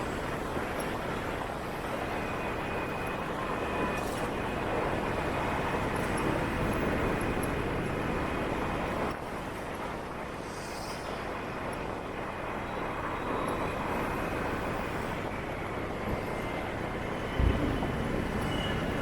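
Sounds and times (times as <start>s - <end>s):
motorbike and street traffic: 3.4s - 19.0s.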